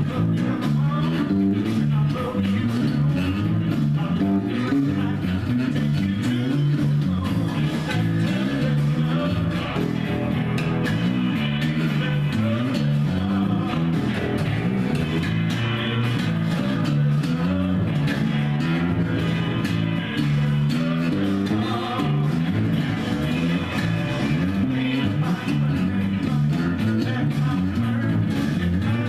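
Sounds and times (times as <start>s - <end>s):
rock song with singing: 0.0s - 29.0s.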